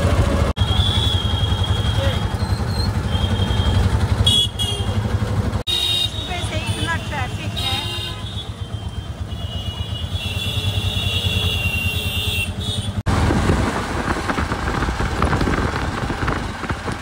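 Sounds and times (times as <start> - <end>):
traffic rushing: 0.0 - 17.0
vehicle engine rumble: 0.0 - 17.0.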